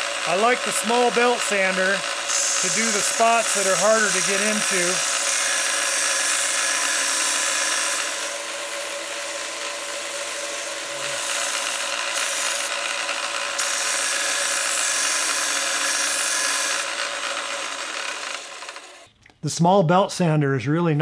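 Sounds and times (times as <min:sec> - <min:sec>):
belt sander sanding wood: 0:00.0 - 0:19.1.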